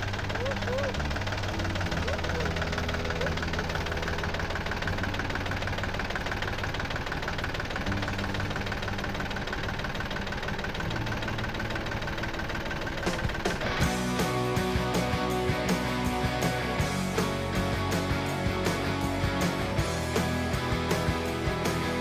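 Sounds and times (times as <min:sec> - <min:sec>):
rotary tiller working soil: 0:00.0 - 0:22.0
tractor engine running: 0:00.0 - 0:22.0.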